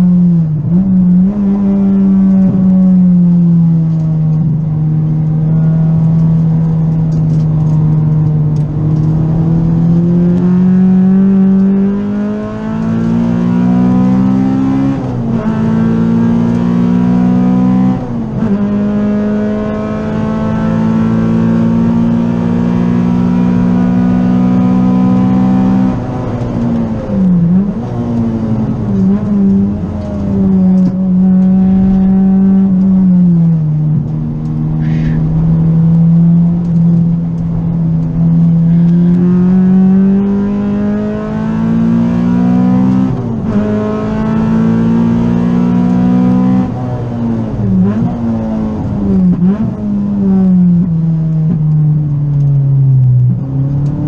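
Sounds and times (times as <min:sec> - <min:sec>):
car engine revving under acceleration: 0:00.0 - 0:54.0.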